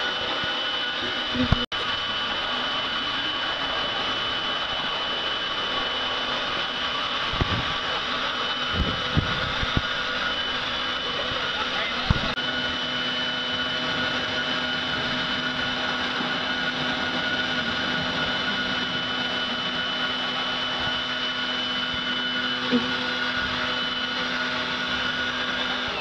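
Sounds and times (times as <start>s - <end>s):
electric leaf blower running: 0.0s - 26.0s.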